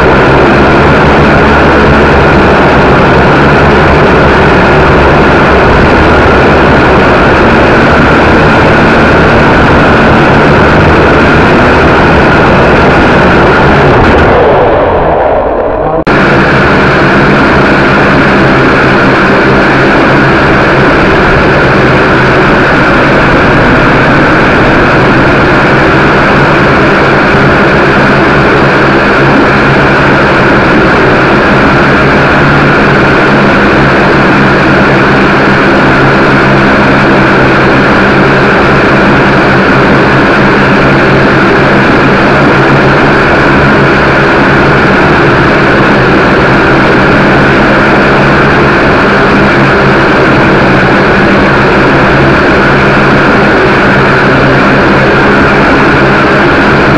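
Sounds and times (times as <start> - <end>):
quadcopter motors humming: 0.0 - 56.9.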